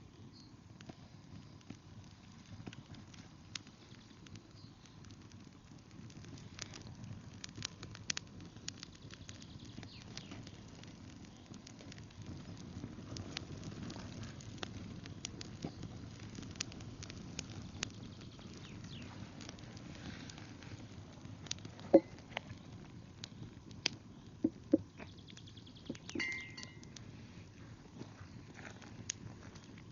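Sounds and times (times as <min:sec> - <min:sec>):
campfire crackling and popping: 0:00.0 - 0:29.9
low fire rumble: 0:00.0 - 0:29.9.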